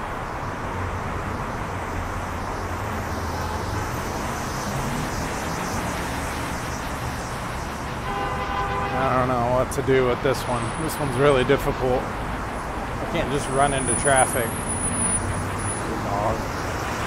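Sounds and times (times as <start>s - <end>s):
freeway traffic: 0.0s - 17.0s.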